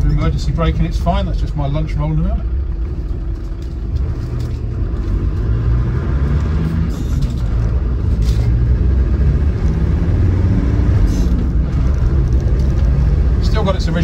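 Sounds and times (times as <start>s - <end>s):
diesel engine and road rumble: 0.0s - 14.0s.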